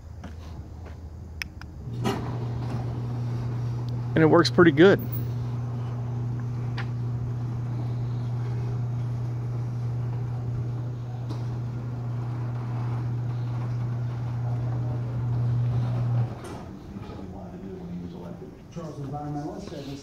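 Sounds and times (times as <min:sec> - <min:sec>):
garage door opener motor humming: 0:01.8 - 0:19.6.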